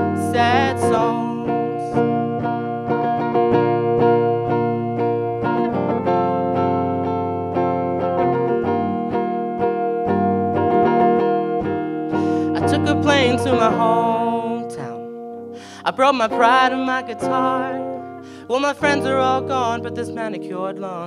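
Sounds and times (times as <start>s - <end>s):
electric guitar picking chords: 0.0s - 21.0s.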